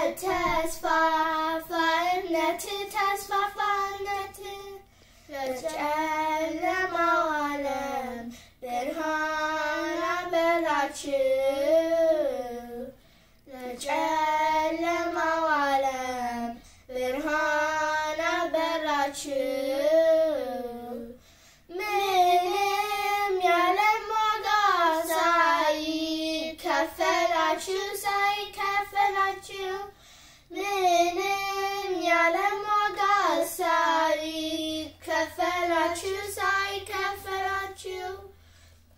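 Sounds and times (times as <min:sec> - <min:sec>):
girls singing a hymn unaccompanied: 0:00.0 - 0:38.4.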